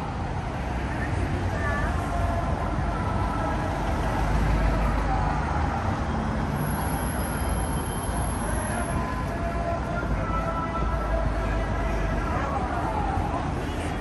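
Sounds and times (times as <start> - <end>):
traffic rumbling past: 0.0 - 14.0.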